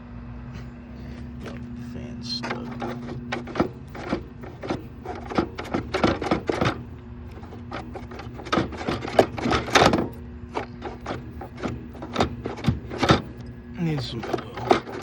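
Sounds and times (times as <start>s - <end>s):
low hum: 0.0s - 15.0s
fan clicking knocking and rubbing: 1.4s - 15.0s.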